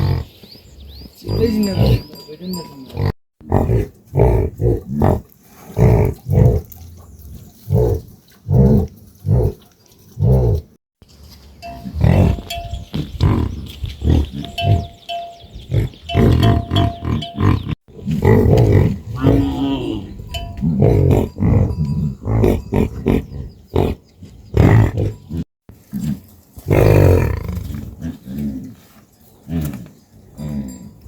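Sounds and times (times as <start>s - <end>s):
farm animals grunting: 0.0s - 10.7s, 11.6s - 31.0s.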